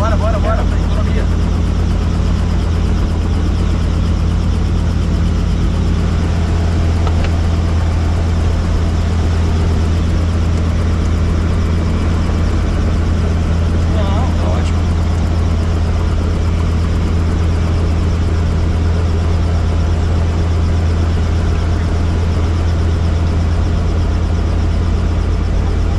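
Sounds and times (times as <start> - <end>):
helicopter rotor drone: 0.0 - 25.9.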